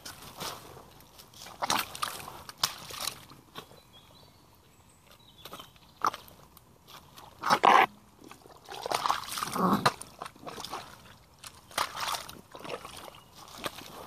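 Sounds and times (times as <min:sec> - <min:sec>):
boots squelching through mud and water: 0:00.0 - 0:03.9, 0:05.1 - 0:14.0.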